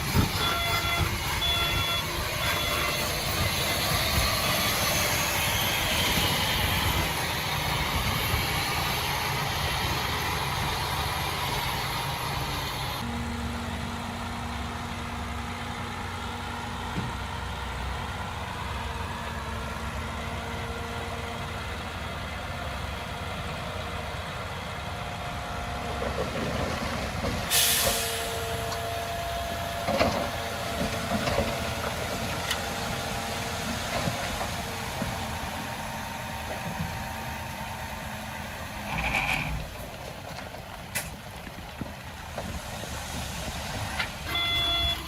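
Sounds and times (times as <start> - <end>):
diesel construction machinery running: 0.0 - 45.0.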